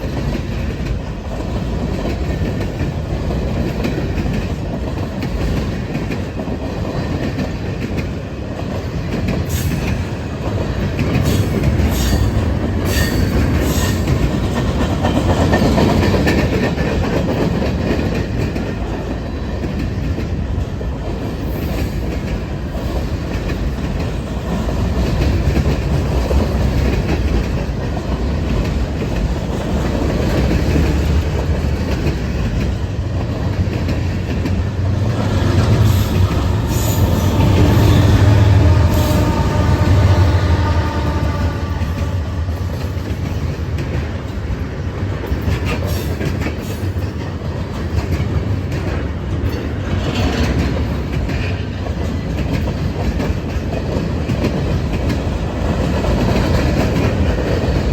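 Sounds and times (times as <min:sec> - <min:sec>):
freight train rumbling past: 0:00.0 - 0:57.9
wheels clicking over rail joints: 0:00.0 - 0:57.9.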